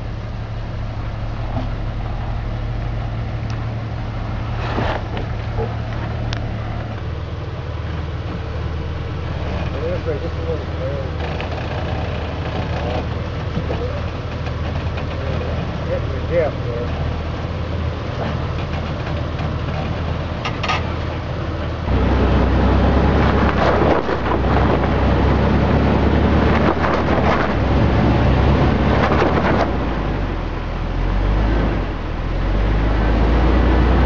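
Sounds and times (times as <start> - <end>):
car engine idling: 0.0 - 34.0
engine running under load: 0.0 - 34.0.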